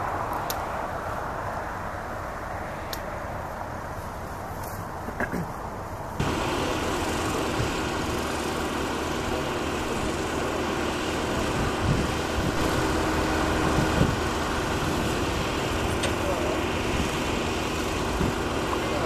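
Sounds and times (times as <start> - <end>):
engine idling: 2.9 - 19.0.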